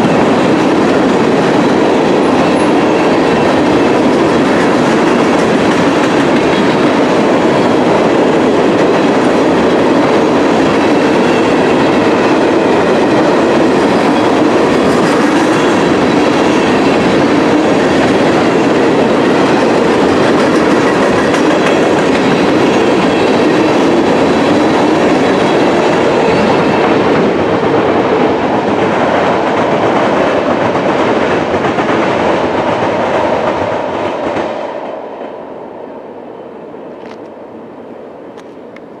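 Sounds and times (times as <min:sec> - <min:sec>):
freight train wheels clacking: 0:00.0 - 0:35.2.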